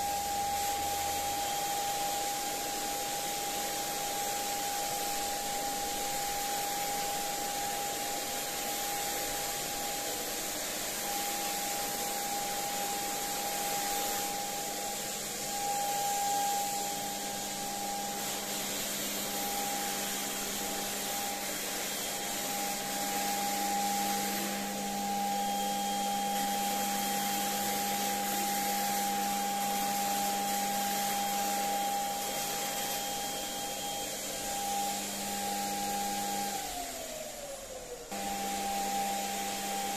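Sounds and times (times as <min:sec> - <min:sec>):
air blowing through hose: 0:00.0 - 0:37.5
paint sprayer turbine whining: 0:00.0 - 0:39.9.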